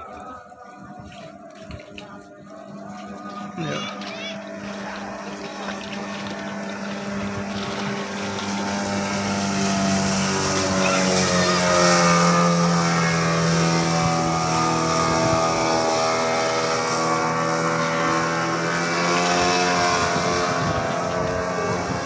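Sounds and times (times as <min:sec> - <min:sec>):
outboard motor boat at speed: 0:00.0 - 0:22.0.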